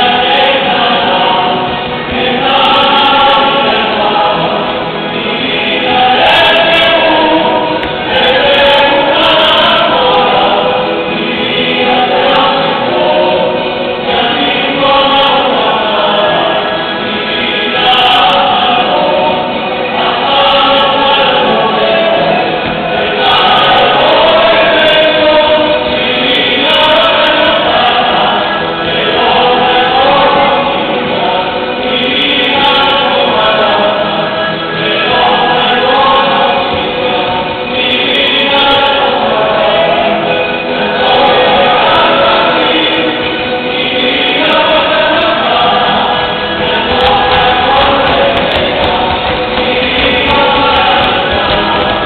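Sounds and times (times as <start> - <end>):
group singing folk music: 0.0 - 52.0.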